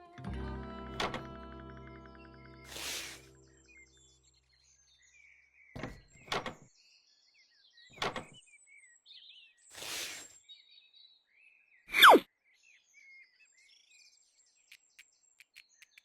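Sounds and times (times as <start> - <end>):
small birds chirping: 2.3 - 16.0.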